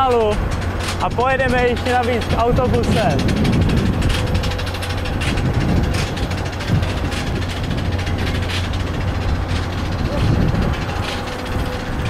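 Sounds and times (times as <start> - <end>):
aircraft engines idling: 0.0 - 12.0.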